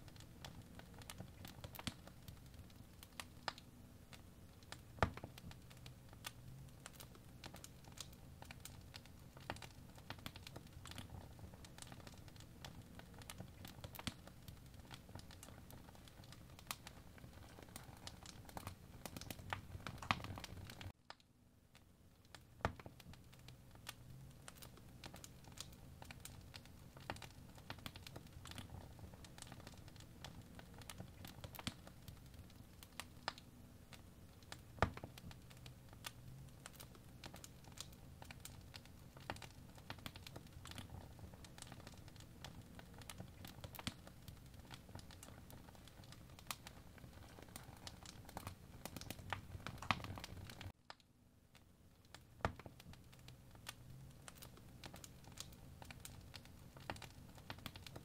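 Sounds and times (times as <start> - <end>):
light clicks and crackles: 0.0 - 58.0.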